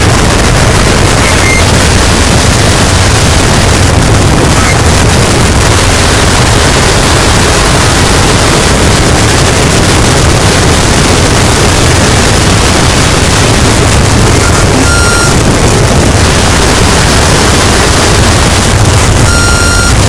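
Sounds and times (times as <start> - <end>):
harsh static noise: 0.0 - 20.0
heavy low rumble: 0.0 - 20.0.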